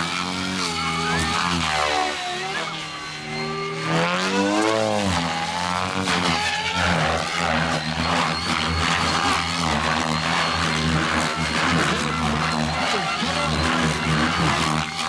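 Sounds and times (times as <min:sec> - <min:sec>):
rc helicopter rotor and motor: 0:00.0 - 0:15.0.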